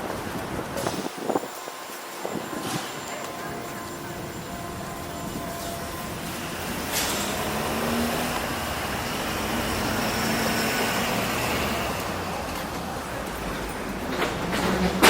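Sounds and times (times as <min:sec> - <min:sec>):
bus motor and road noise: 0:00.0 - 0:15.0.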